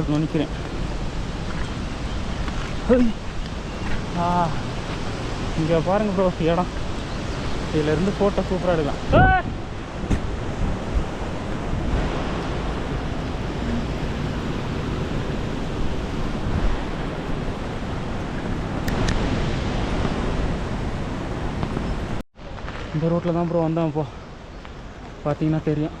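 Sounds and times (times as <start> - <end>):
waterfall roaring: 0.0 - 22.2.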